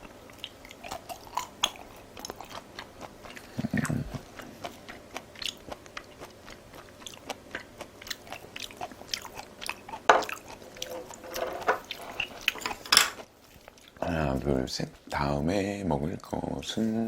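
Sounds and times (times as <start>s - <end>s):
person chewing food: 0.0s - 15.3s.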